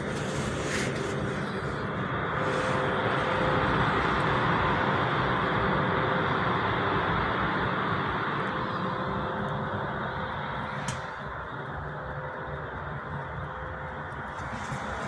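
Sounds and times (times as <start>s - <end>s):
vehicle rumble and hiss: 0.0s - 15.0s.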